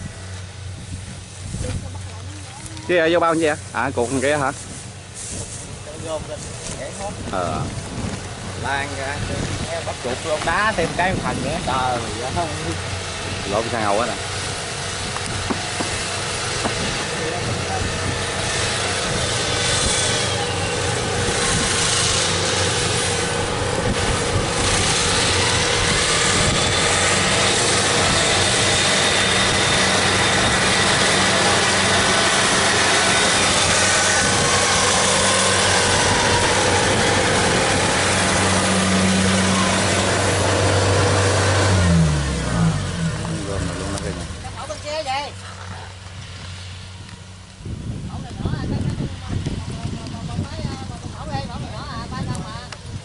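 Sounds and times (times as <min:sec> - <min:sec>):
diesel engine hum: 0:00.0 - 0:53.0
rushing threshing machinery: 0:00.0 - 0:53.0.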